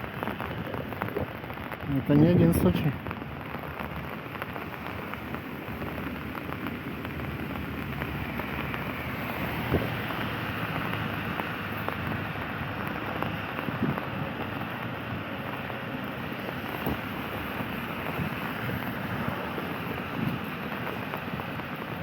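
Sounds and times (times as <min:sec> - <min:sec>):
raindrop ticks: 0:00.0 - 0:22.0
steady rain: 0:00.0 - 0:22.0.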